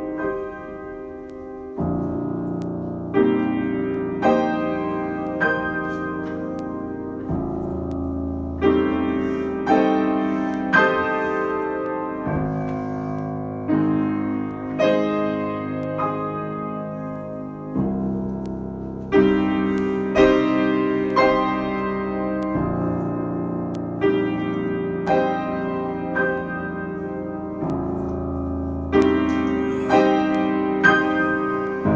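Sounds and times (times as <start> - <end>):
piano chords ringing: 0.0 - 31.9.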